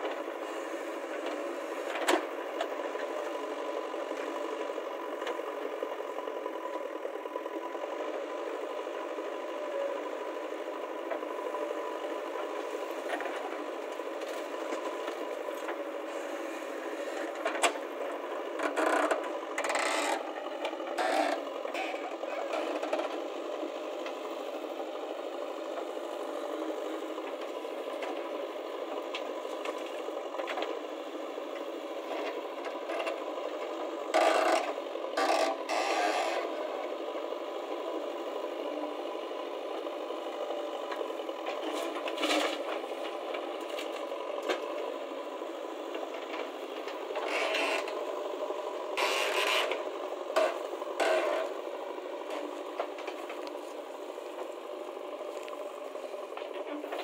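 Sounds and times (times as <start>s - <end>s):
diesel engine running: 0.0s - 57.0s
tractor engine idling: 0.0s - 57.0s.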